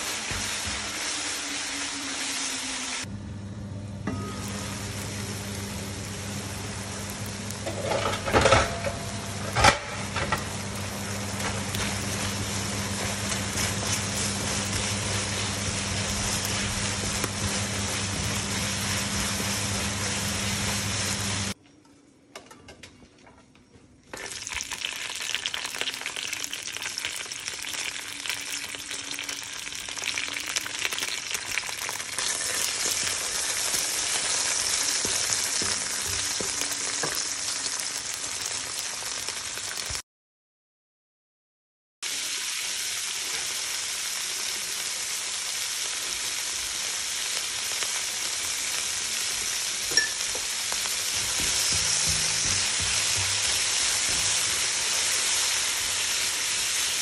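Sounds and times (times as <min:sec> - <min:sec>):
food sizzling in a frying pan: 0:00.0 - 0:03.1, 0:04.1 - 0:21.6, 0:24.1 - 0:40.0, 0:42.0 - 0:57.0.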